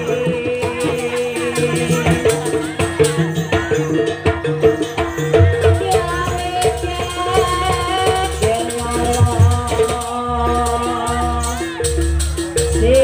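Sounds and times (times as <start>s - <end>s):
rattling percussion: 0.0s - 13.0s.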